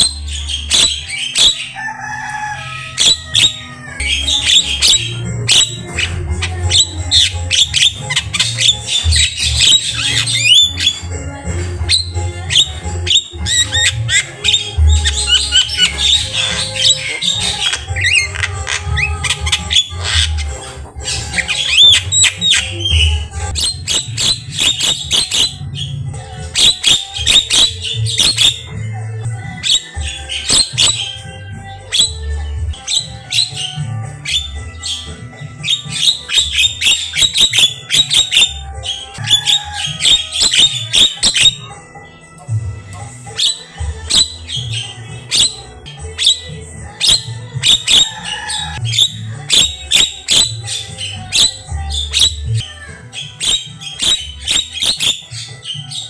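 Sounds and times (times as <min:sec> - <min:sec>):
myna singing: 0:00.0 - 0:56.0.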